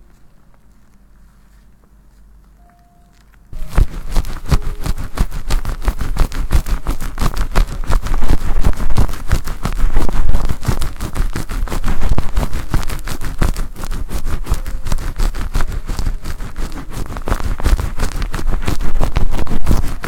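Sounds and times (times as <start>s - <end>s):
fluffy material scratching microphone: 3.5s - 20.0s.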